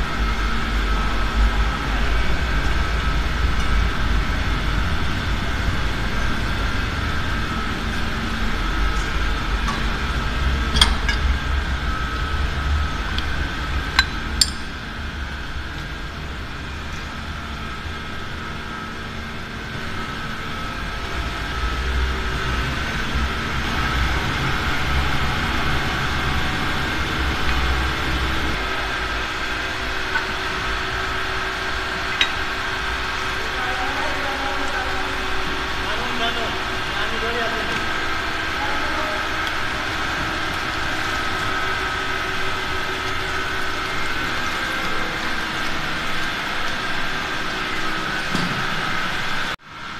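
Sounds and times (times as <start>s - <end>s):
machinery drone with low rumble: 0.0s - 49.9s.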